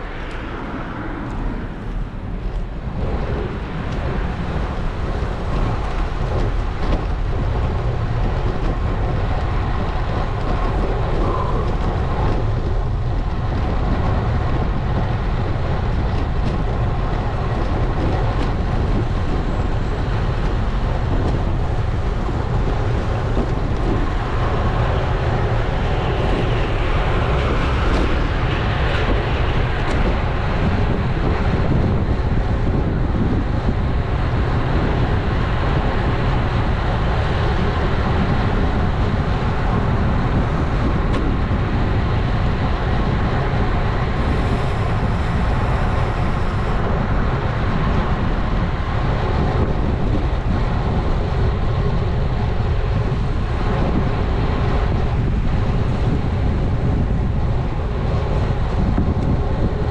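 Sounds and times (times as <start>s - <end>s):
bike tyre noise: 0.0s - 59.9s
wind rumble on microphone: 0.0s - 59.9s.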